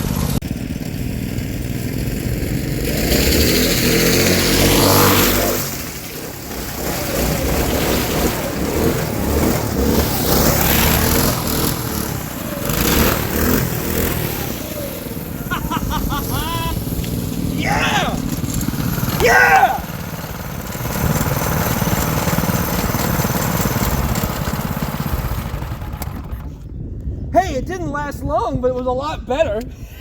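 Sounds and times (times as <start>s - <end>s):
wheels scraping on wet ground: 0.0s - 26.6s
go-kart engine revving: 0.0s - 26.7s.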